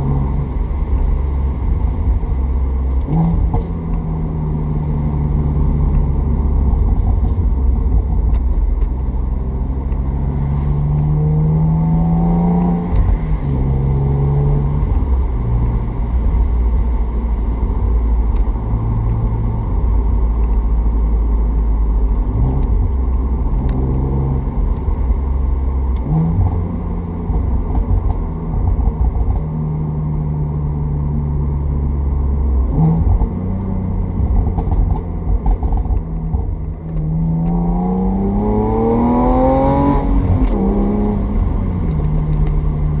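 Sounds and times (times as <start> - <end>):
car engine accelerating and downshifting: 0.0 - 43.0.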